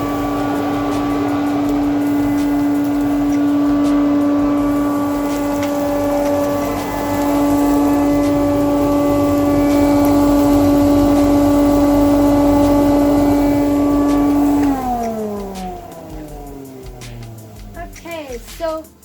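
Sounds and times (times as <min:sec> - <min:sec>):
dust extractor motor hum: 0:00.0 - 0:19.0
motor winding down: 0:00.0 - 0:19.0.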